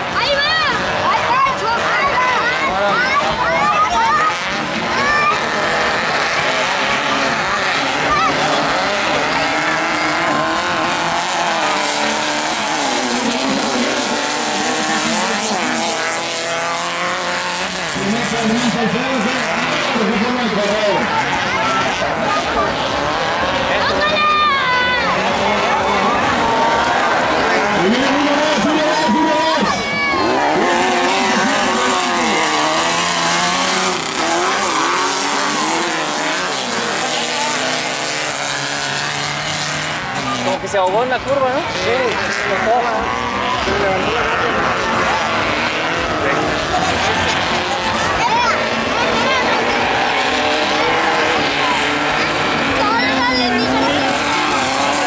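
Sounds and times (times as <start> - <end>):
race buggy engines revving: 0.0 - 55.0.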